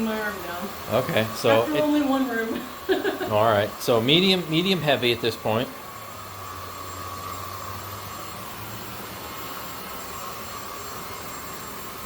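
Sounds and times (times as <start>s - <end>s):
stick vacuum running: 0.0s - 12.0s.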